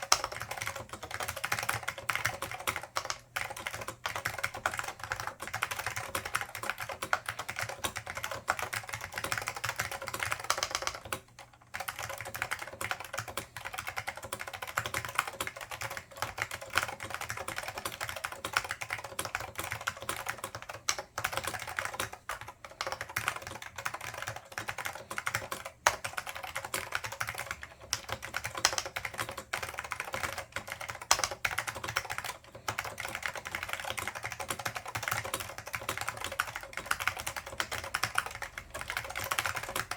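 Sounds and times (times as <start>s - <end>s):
fast clicky keyboard typing: 0.0s - 39.9s.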